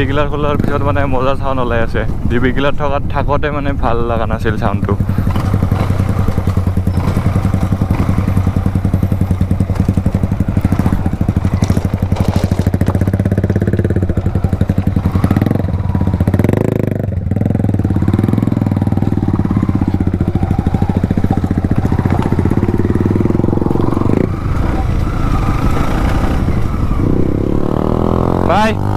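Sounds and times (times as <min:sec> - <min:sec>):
motorcycle exhaust pulsing: 0:00.0 - 0:28.9.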